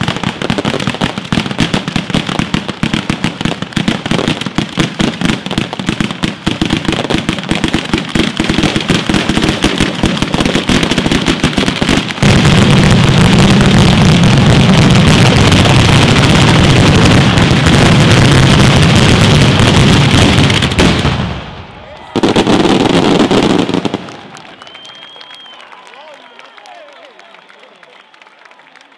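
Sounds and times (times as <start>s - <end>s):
firecracker bangs: 0.0s - 24.3s.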